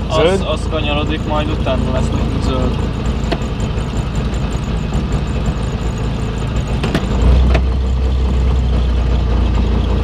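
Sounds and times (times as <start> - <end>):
two-stroke engine idling: 0.0 - 10.0.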